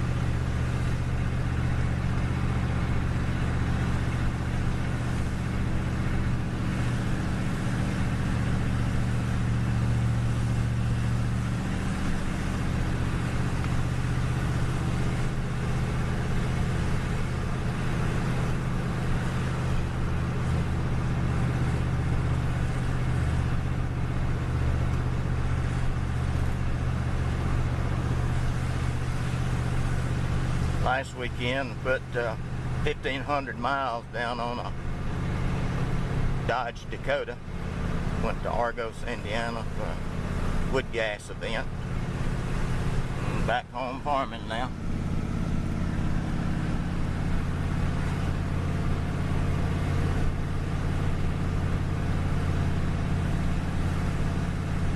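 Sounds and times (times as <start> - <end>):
engine droning while driving: 0.0 - 54.9.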